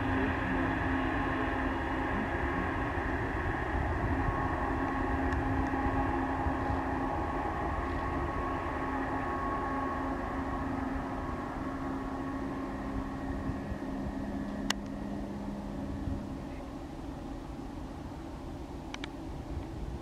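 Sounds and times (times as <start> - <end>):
jet engines rumbling and whining: 0.0 - 20.0.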